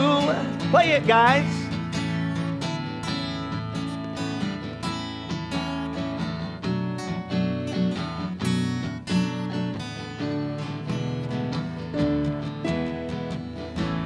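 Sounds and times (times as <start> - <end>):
acoustic guitars strumming: 0.0 - 14.0
keyboard accompaniment: 0.0 - 14.0.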